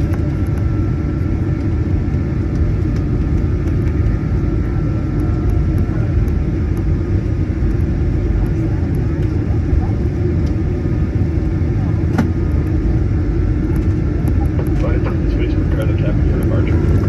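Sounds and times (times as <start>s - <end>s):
faint steady whine: 0.0s - 17.0s
jet engine rumble in cabin: 0.0s - 17.0s.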